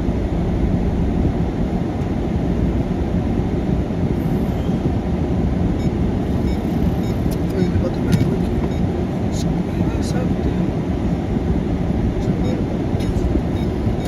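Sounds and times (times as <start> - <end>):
car driving in rain: 0.0 - 14.0.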